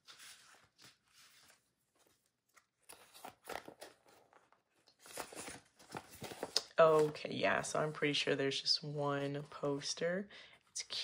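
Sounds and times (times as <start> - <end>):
paper poster rustling and crinkling: 0.0 - 10.0.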